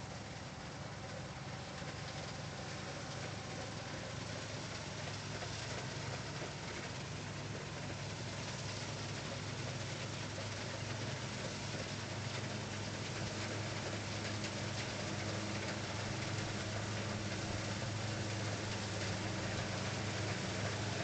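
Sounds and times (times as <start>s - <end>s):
combine harvester engine hum: 0.0s - 21.0s.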